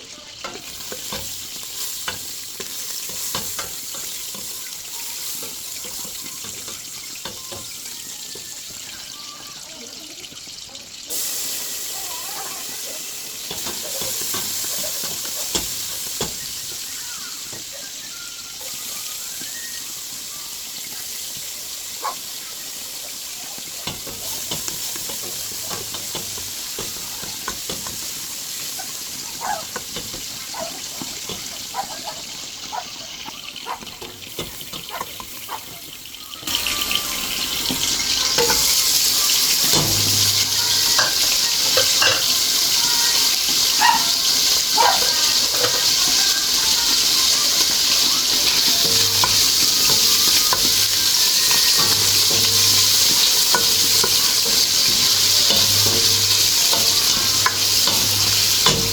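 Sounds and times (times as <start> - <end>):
steady cooking hiss: 0.0 - 58.9
utensil clinking against a pot: 0.3 - 9.6, 12.6 - 19.9, 23.0 - 58.9.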